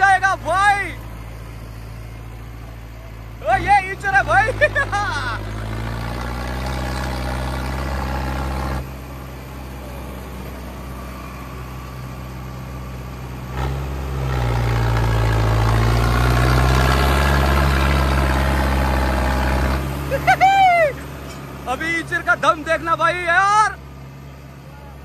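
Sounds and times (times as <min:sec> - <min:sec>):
tractor diesel engine working hard: 0:00.0 - 0:25.0.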